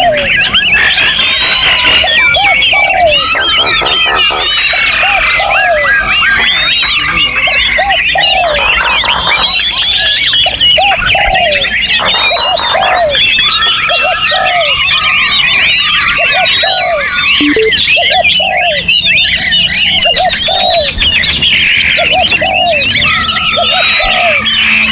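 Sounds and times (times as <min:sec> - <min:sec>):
songbirds chorus: 0:00.0 - 0:24.9.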